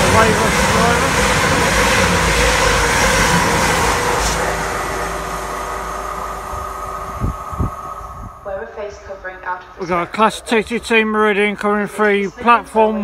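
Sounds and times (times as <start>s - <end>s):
train passing at high speed: 0.0s - 11.3s.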